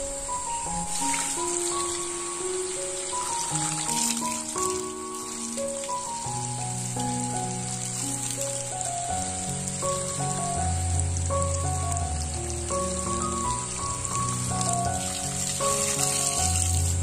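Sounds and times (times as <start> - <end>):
background music with plucked melody: 0.0 - 17.0
water pouring and splashing: 0.0 - 17.0.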